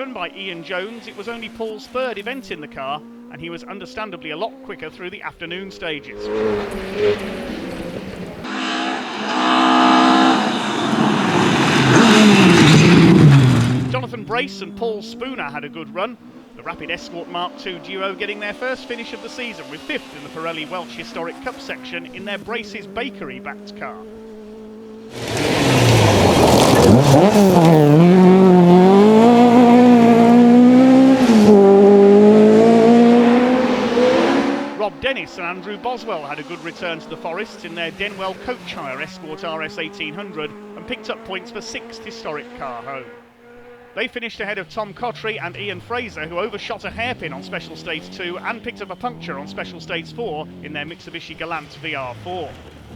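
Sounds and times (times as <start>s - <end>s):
rally car passing at full throttle: 0.0s - 52.9s.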